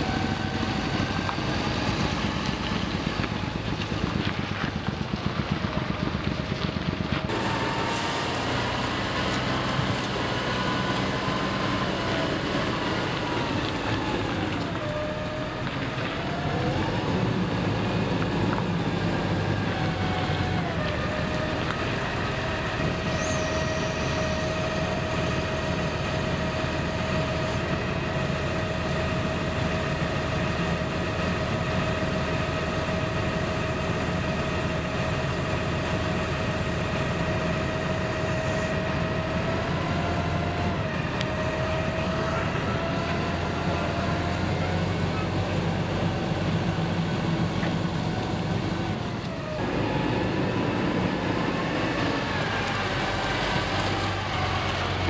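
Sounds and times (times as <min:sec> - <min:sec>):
tractor diesel engine running: 0:00.0 - 0:55.0
tractor whine: 0:00.0 - 0:55.0.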